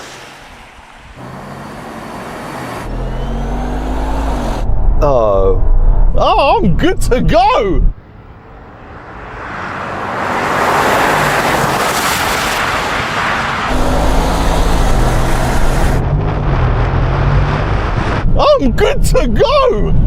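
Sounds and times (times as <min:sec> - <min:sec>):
racing car engine drone: 0:00.0 - 0:20.0
road and wind noise: 0:00.0 - 0:20.0.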